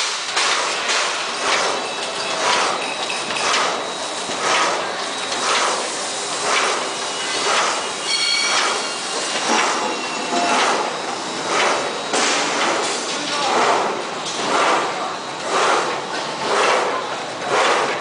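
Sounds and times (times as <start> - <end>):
machine rhythmic mechanical clatter: 0.0 - 18.0.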